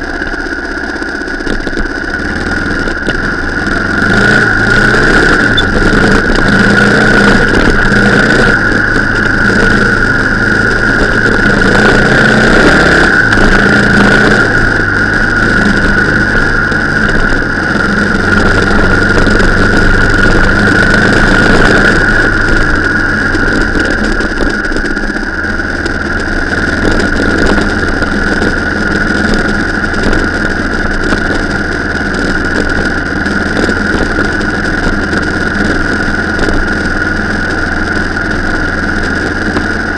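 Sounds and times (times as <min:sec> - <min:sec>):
car engine running: 0:00.0 - 0:39.9
high whine: 0:00.0 - 0:39.9.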